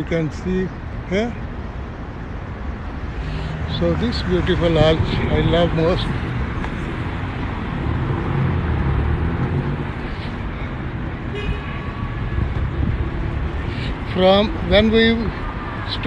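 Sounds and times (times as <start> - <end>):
cars passing on street: 0.0 - 16.0.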